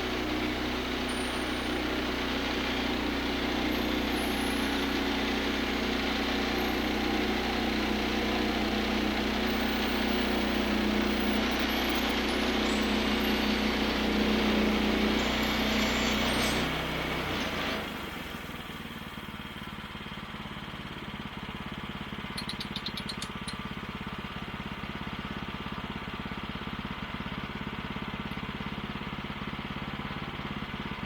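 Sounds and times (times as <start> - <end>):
sawmill gas engine running: 0.0 - 31.0.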